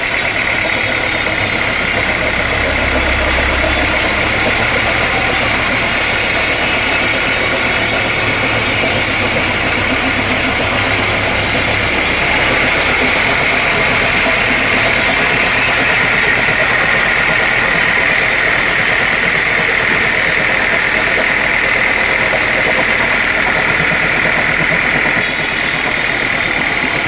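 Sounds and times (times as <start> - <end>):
sawmill machinery droning: 0.0 - 27.0.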